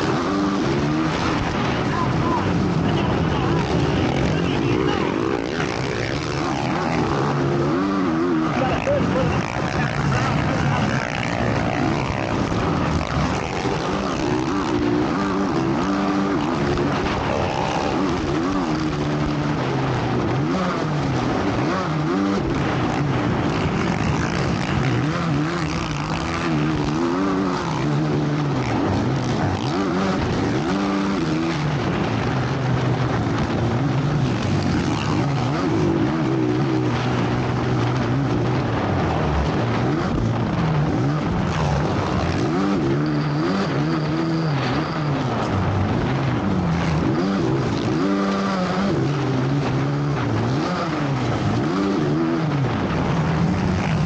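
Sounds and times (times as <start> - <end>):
motocross engines revving: 0.0 - 54.0.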